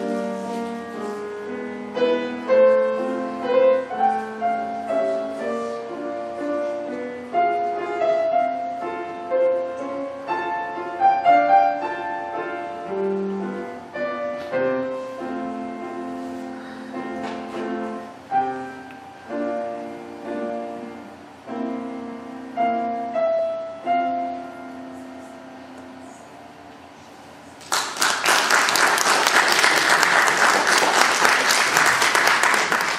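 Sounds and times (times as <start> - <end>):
grand piano playing: 0.0 - 26.7.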